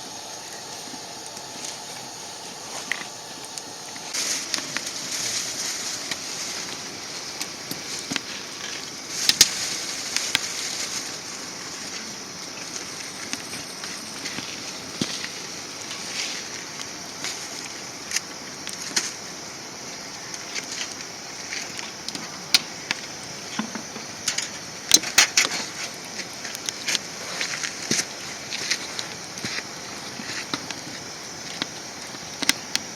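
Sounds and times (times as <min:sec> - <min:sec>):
fire crackling and popping: 0:00.0 - 0:32.9
wood fire burning: 0:00.0 - 0:32.9.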